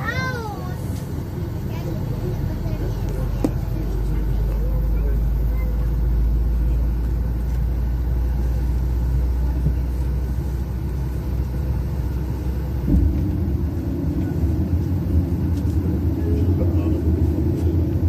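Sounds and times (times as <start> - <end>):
airplane cabin rumble: 0.0 - 18.0
jet engine hum: 0.0 - 18.0.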